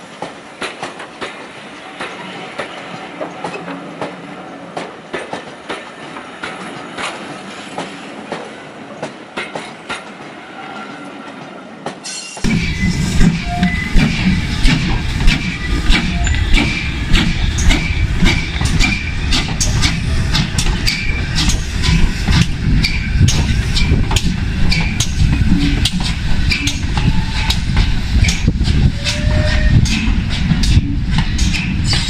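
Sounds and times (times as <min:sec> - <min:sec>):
train low rumble: 0:00.0 - 0:32.0
wheels clicking over rail joints: 0:00.1 - 0:10.3, 0:14.0 - 0:32.0.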